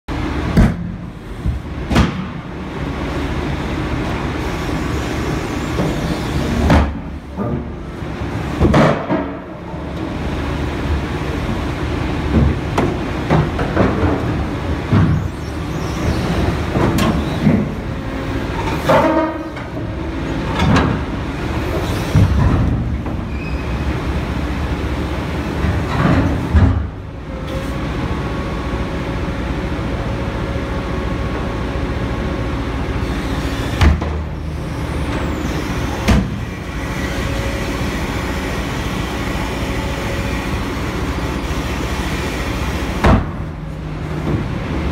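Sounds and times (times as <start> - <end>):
machine drone: 2.6 - 8.6, 9.5 - 44.9.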